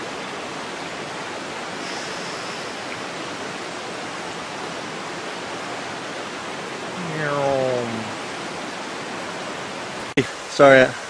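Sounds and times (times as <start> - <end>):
river flowing: 0.0 - 11.0
waterfall rushing: 0.0 - 11.0.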